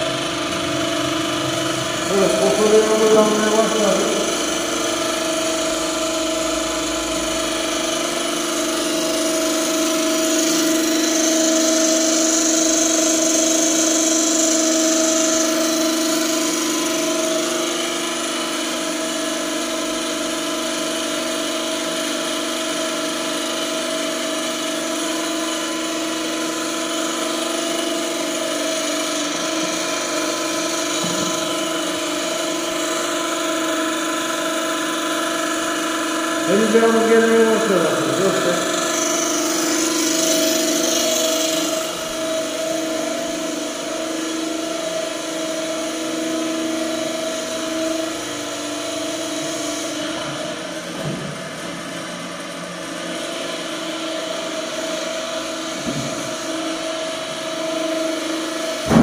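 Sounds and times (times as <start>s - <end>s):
pump motor humming whine: 0.0s - 59.0s.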